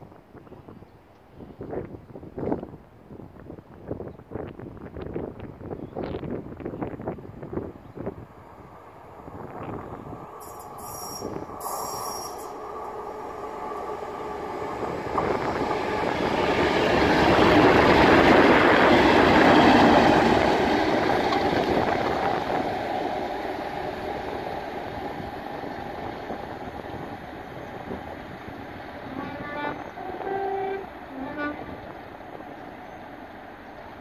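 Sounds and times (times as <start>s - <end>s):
diesel locomotive engines: 4.8s - 34.0s
train wheel noise: 6.6s - 34.0s.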